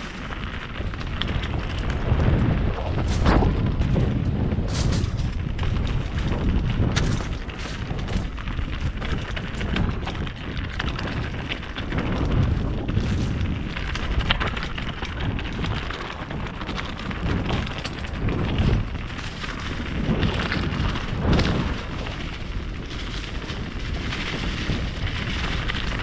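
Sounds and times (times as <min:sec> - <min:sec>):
bike rattling over stones: 0:00.0 - 0:26.0
wind buffeting microphone: 0:00.0 - 0:26.0.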